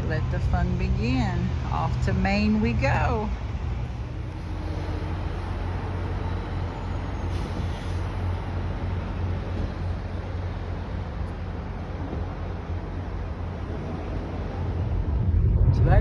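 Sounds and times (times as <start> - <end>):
car interior road rumble: 0.0 - 7.2, 8.3 - 16.0.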